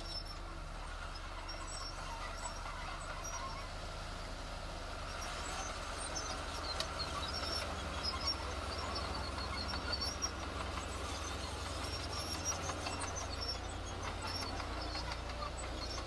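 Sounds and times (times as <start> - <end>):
heavy diesel machinery droning: 0.0 - 16.0.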